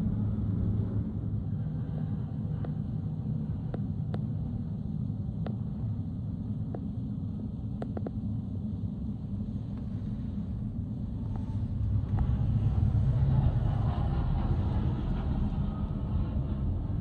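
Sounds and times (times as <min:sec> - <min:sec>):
jet aircraft engines rumbling: 0:00.0 - 0:17.0.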